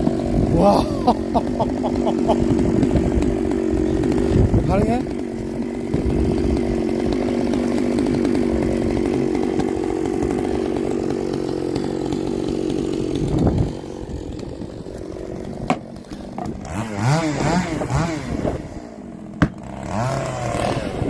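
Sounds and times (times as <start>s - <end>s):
chainsaw running: 0.0s - 21.0s.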